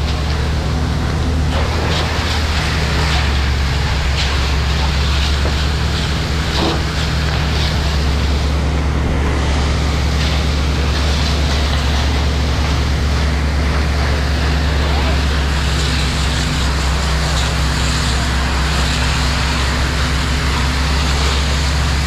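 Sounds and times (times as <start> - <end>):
engine running: 0.0 - 22.0
hose stream spattering on gravel: 1.4 - 22.0.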